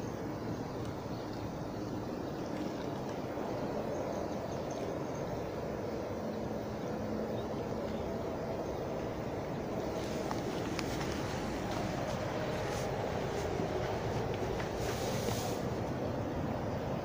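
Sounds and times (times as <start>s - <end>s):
low rushing outdoor background noise: 0.0s - 17.0s.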